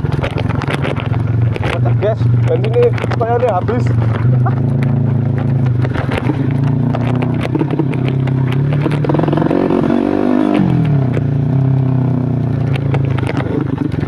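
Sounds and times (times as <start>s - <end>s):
knocks and clatter over rocks: 0.0s - 14.0s
motorcycle engine revving: 0.0s - 14.0s.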